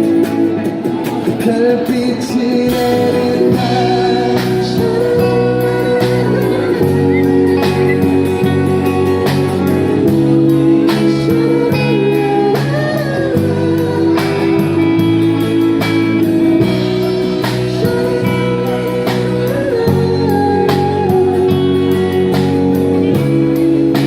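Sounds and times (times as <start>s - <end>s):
live band playing pop-rock: 0.0s - 24.0s.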